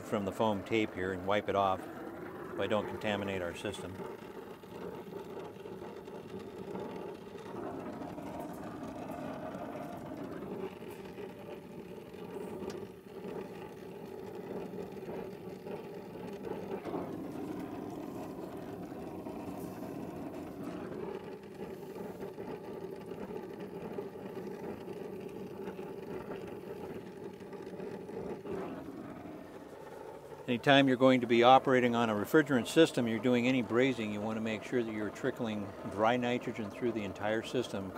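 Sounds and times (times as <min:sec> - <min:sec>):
torch flame burning: 0:00.0 - 0:37.9.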